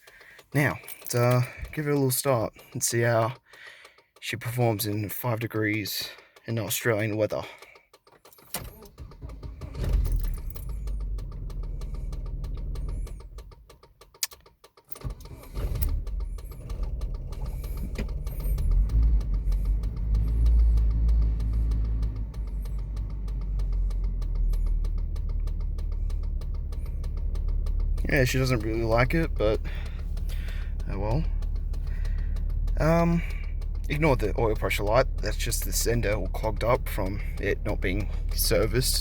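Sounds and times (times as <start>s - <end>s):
car engine cold starting: 0.0s - 5.3s, 8.3s - 39.0s.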